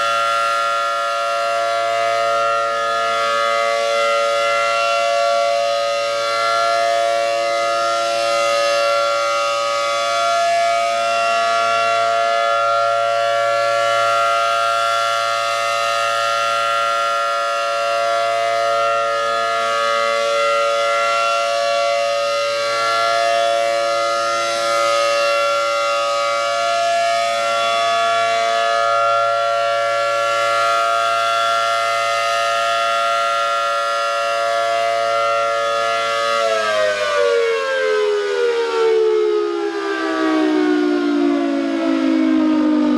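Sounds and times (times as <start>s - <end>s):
siren steady tone: 0.0s - 42.9s.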